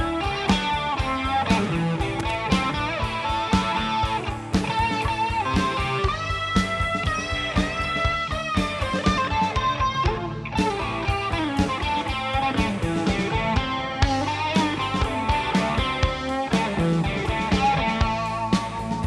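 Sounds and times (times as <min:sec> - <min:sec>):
electric guitar notes: 0:00.0 - 0:19.0
steady drum beat: 0:00.0 - 0:19.0.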